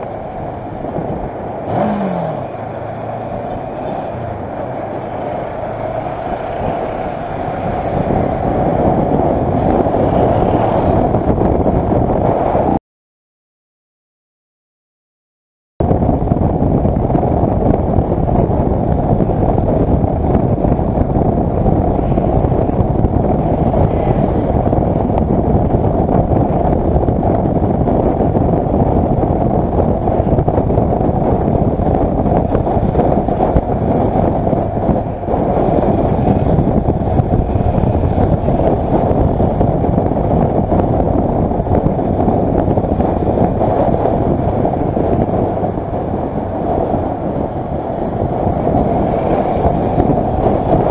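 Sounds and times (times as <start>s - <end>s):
motorcycle road noise: 0.0s - 12.8s, 15.8s - 50.9s
wind rush on microphone: 0.0s - 12.8s, 15.8s - 50.9s.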